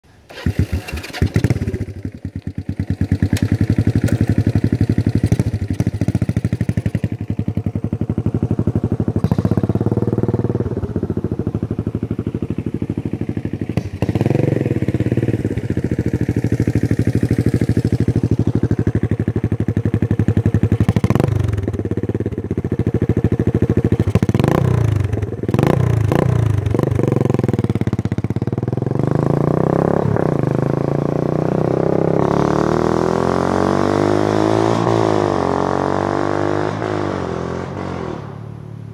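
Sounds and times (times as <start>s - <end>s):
motorcycle engine running: 0.3s - 38.9s.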